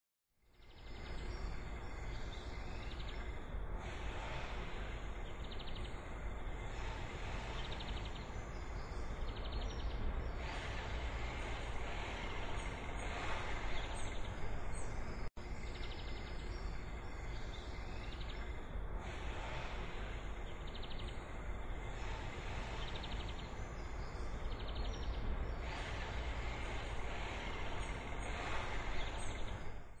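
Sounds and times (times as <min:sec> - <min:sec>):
birds chirping: 0:00.7 - 0:30.0.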